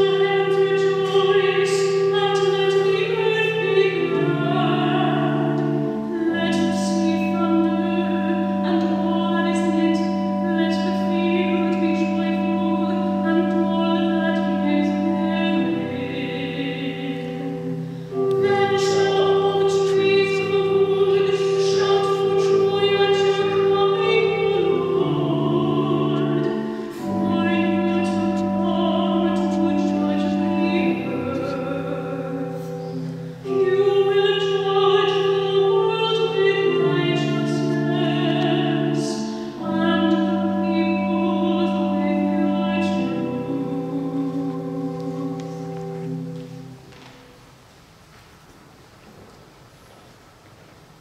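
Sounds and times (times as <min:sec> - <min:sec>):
woman singing: 0:00.0 - 0:46.3
organ: 0:00.0 - 0:47.2.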